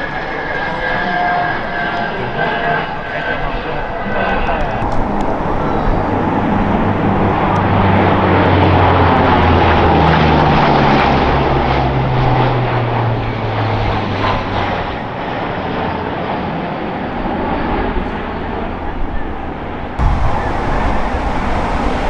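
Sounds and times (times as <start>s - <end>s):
propeller aircraft flying past: 0.1s - 18.7s, 20.0s - 22.0s.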